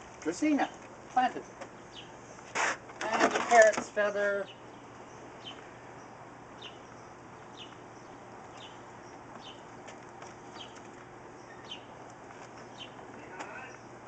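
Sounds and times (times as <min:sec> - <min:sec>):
bird chirping: 0:00.6 - 0:02.5, 0:03.9 - 0:14.0.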